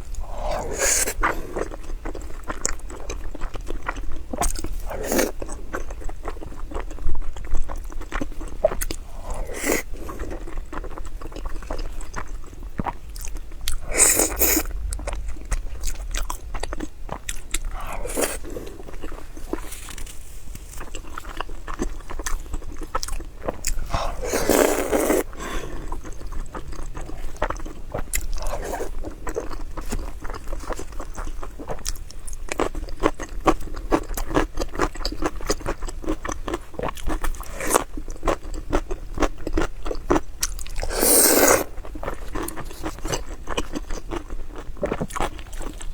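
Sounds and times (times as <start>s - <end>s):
person chewing with mouth clicks: 0.0s - 45.9s.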